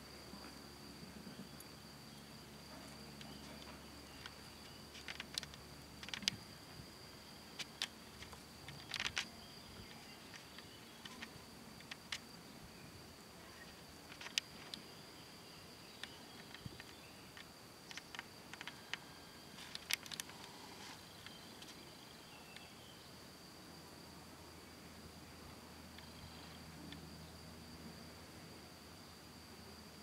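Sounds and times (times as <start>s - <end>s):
high-pitched insect trill: 0.0s - 30.0s.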